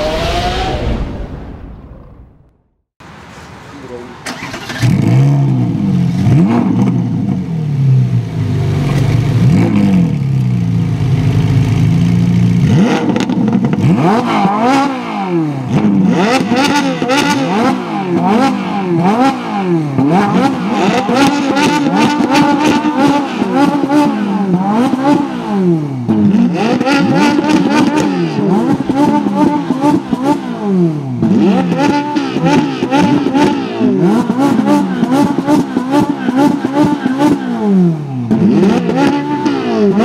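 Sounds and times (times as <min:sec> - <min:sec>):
sports car engines revving: 0:00.0 - 0:01.4, 0:03.4 - 0:40.0.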